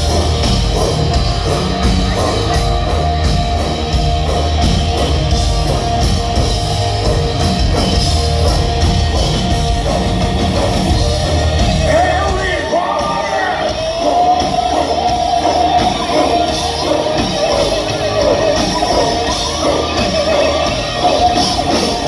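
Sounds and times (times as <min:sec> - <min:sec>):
distorted electric guitars: 0:00.0 - 0:22.0
pounding drum beat: 0:00.0 - 0:22.0.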